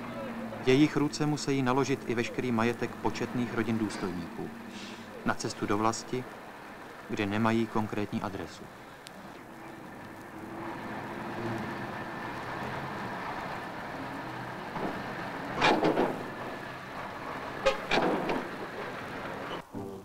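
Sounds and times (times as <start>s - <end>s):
heavy truck engine running: 0.0s - 19.6s.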